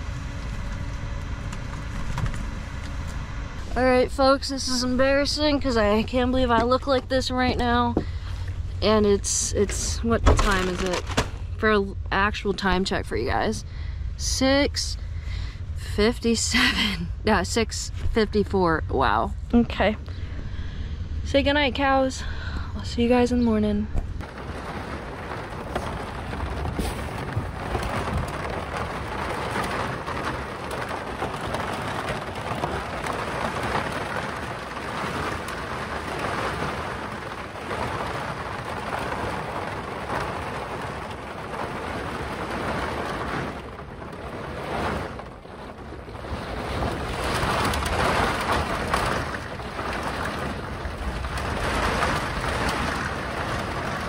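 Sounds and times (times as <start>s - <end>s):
heavy rain pouring: 0.0s - 17.6s, 19.7s - 54.0s
low rumble: 0.0s - 54.0s.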